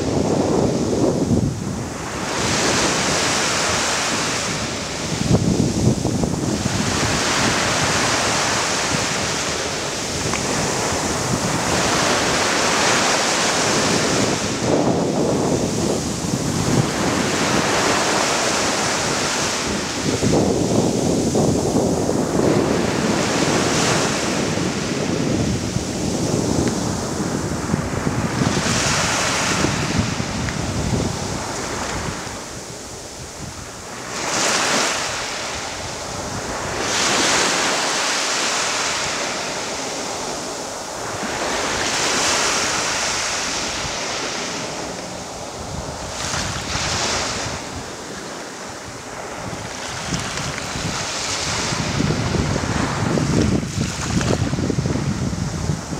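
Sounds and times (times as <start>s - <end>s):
waves washing onto sand: 0.0s - 55.9s
wind rumble on microphone: 0.0s - 55.9s.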